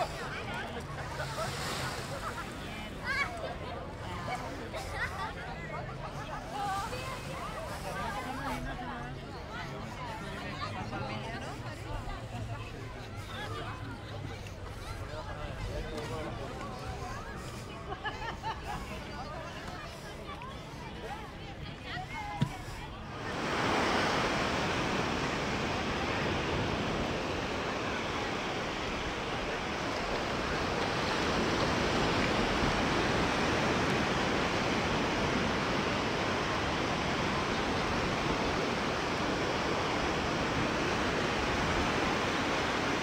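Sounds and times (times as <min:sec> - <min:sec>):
sea surf washing on shore: 0:00.0 - 0:12.5, 0:13.2 - 0:43.0.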